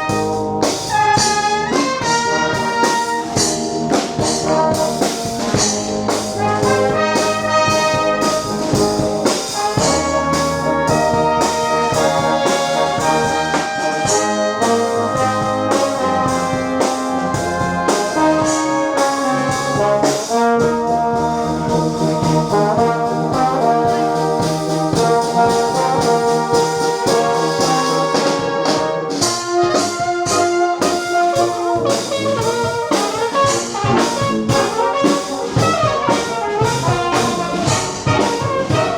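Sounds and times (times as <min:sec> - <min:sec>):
brass music over a beat: 0:00.0 - 0:38.9.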